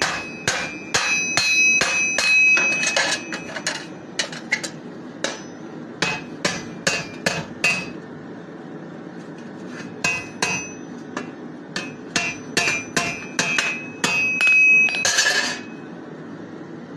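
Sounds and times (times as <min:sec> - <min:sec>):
hammer striking steel: 0:00.0 - 0:08.0, 0:09.8 - 0:15.8.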